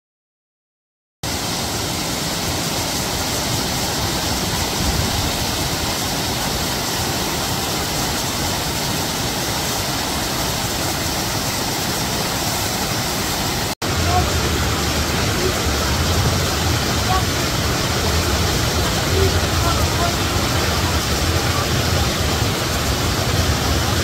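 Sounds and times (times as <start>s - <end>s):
waterfall rushing: 1.2s - 24.0s.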